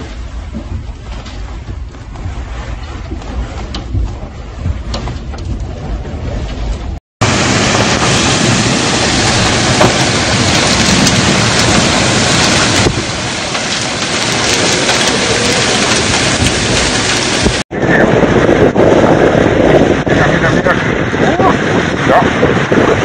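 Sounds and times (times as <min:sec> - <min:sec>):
storm wind: 0:00.0 - 0:23.0
torrential rain: 0:00.0 - 0:23.0.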